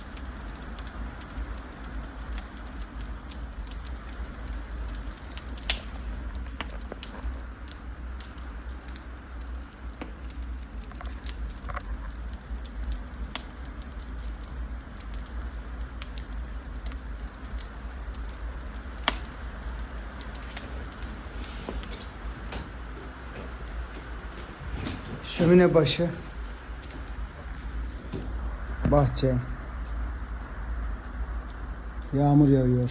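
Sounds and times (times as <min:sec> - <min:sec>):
low steady hum: 0:00.0 - 0:32.9
wood fire crackling: 0:00.0 - 0:32.9.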